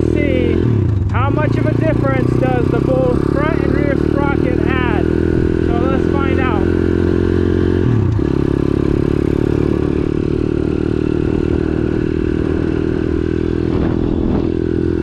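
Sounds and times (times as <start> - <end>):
motorbike engine accelerating: 0.0 - 15.0.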